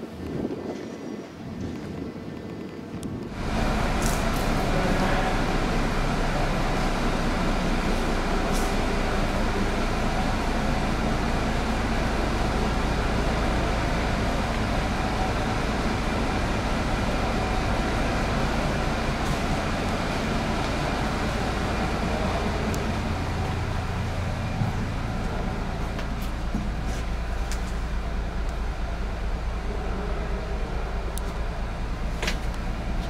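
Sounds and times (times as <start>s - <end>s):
diesel bus engine idling: 3.1s - 33.0s.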